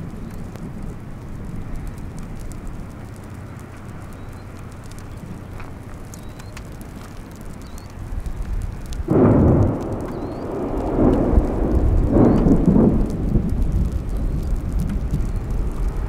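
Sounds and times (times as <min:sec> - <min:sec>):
thunder rumble: 0:00.0 - 0:16.0
wind and rain: 0:00.0 - 0:16.0.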